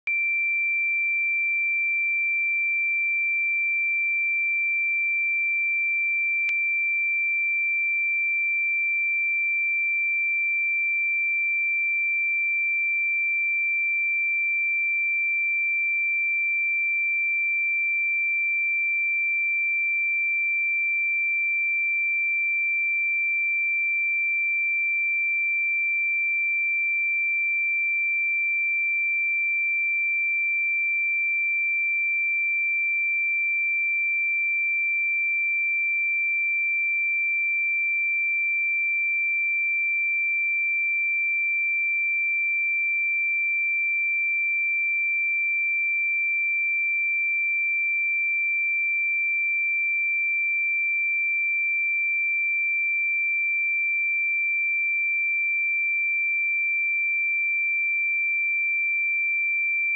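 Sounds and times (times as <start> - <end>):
high-pitched sine test tone: 0.0 - 59.9.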